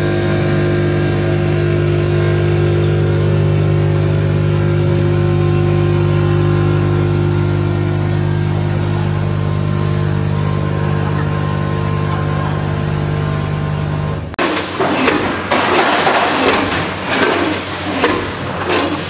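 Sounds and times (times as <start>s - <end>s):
packing machinery humming: 0.0s - 19.0s.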